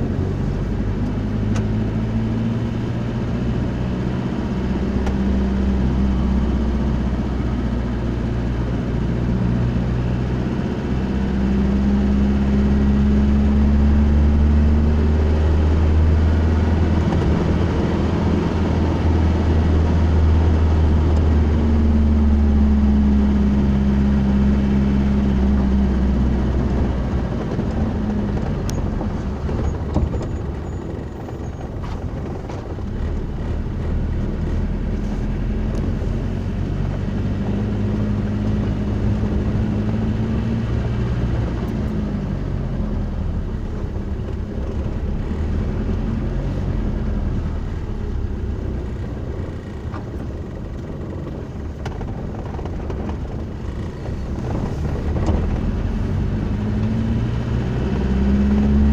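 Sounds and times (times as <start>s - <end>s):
car engine and road drone: 0.0s - 58.9s.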